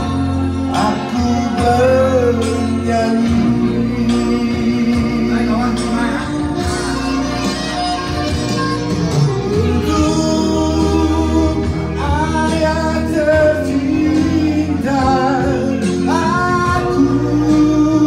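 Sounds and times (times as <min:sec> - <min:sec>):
men singing into microphones: 0:00.0 - 0:07.3, 0:09.4 - 0:18.0
backing music track: 0:00.0 - 0:18.0.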